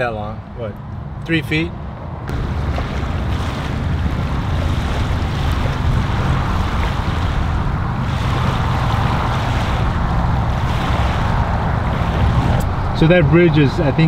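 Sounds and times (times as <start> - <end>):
wind: 0.0 - 14.0
motorboat engine running: 2.3 - 14.0
waves: 2.3 - 14.0.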